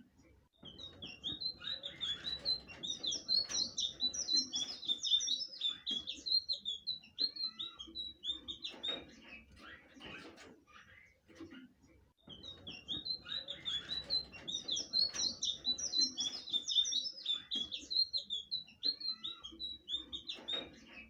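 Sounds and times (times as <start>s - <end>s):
bird warbling song: 0.6s - 11.3s, 12.2s - 21.0s.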